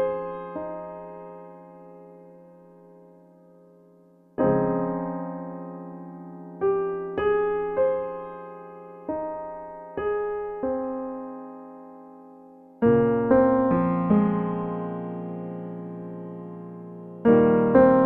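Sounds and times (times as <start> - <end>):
slow soft piano: 0.0 - 18.0.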